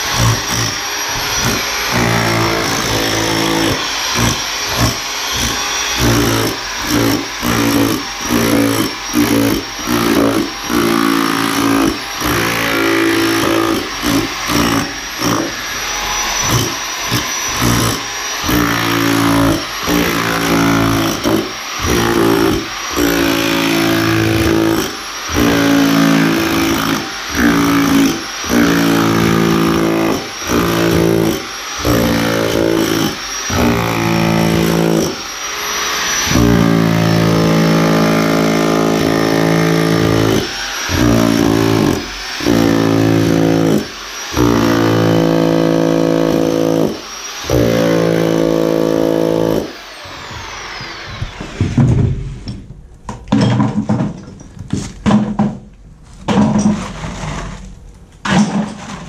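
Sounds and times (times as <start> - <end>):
rotary hammer chipping concrete: 0.0 - 51.8.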